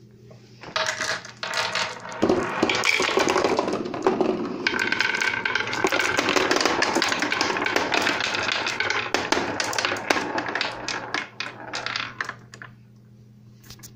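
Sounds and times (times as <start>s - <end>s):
marbles clattering down marble run: 0.6s - 12.7s.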